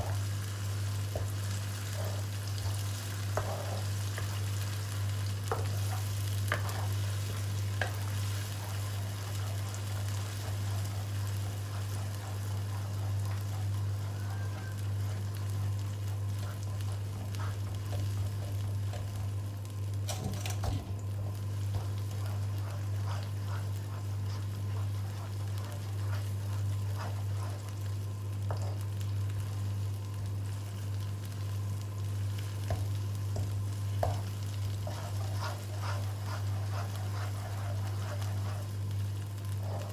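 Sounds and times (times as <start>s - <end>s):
chili paste sizzling in oil: 0.0s - 39.9s
steady low hum: 0.0s - 39.9s
spatula scraping and tapping pan: 1.0s - 19.3s, 20.1s - 28.9s, 32.5s - 39.9s.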